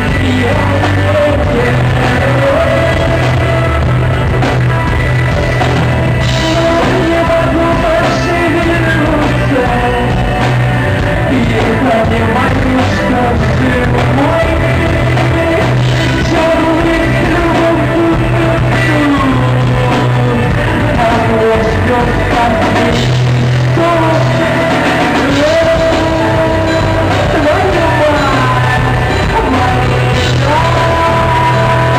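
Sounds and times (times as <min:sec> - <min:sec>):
live rock band playing: 0:00.0 - 0:31.9
person singing: 0:00.0 - 0:31.9.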